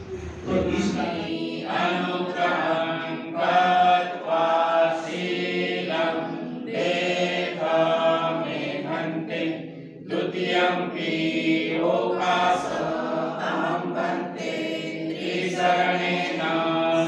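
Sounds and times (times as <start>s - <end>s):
group chanting in unison: 0.0s - 17.0s.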